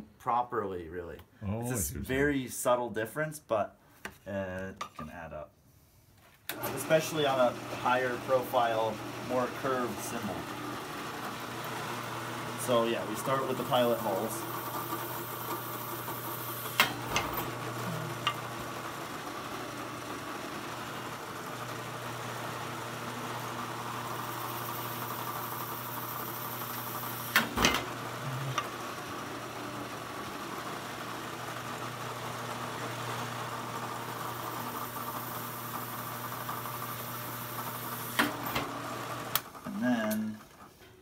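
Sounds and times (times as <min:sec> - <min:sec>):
drill press motor running: 0:06.5 - 0:40.4.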